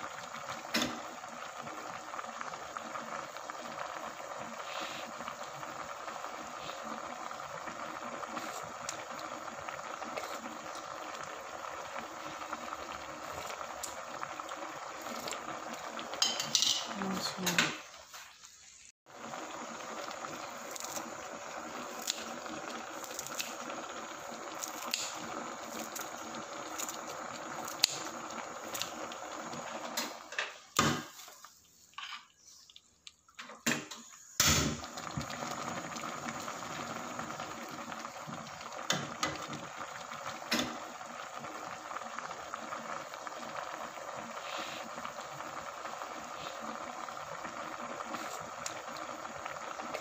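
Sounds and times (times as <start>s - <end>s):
soup boiling in metal pot: 0.0s - 50.0s.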